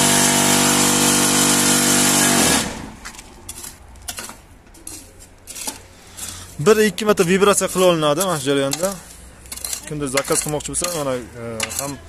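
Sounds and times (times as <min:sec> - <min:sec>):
metal bar scraping concrete mix: 0:00.0 - 0:12.0.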